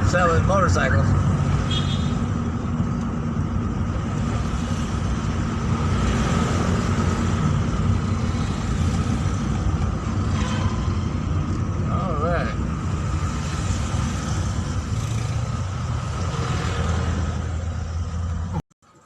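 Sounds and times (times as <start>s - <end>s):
road vehicle driving rumble: 0.0s - 19.0s.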